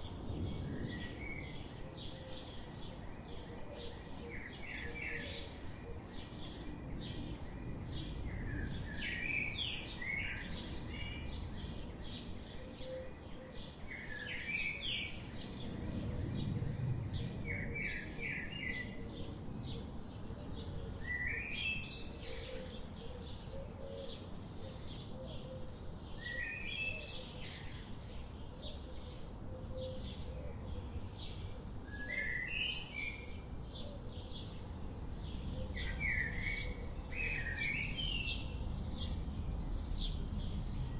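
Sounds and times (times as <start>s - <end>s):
outdoor background hiss and rumble: 0.0s - 40.9s.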